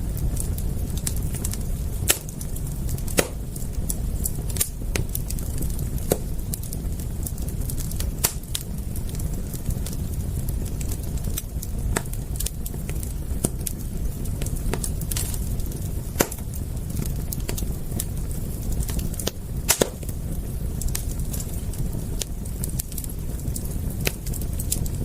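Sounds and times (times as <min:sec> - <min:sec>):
campfire crackling and popping: 0:00.0 - 0:25.0
low rumble of burning: 0:00.0 - 0:25.0.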